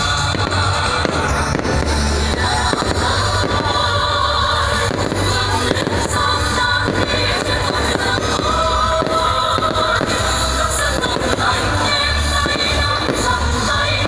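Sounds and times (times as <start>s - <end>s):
fireworks bursting: 0.0s - 14.0s
loud music with singing: 0.0s - 14.0s.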